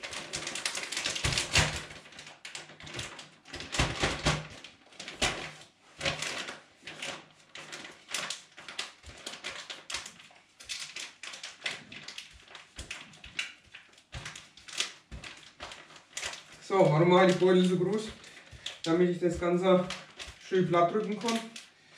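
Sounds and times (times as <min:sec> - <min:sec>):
plastic bags crinkling: 0:00.0 - 0:21.9.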